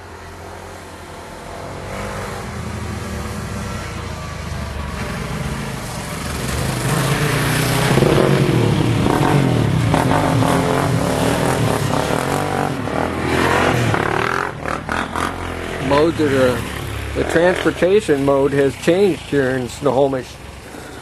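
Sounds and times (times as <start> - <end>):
small vehicle engine passing: 0.0 - 21.0.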